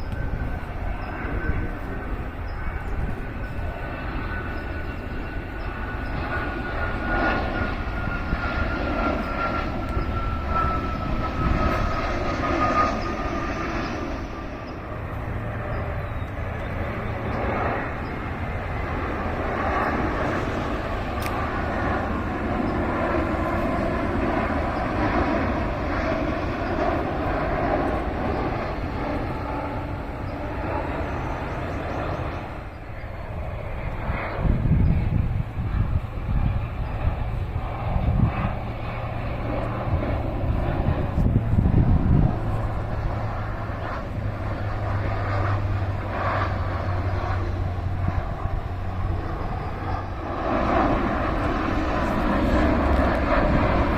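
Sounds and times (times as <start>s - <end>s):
aeroplane engine rumble: 0.0s - 53.9s.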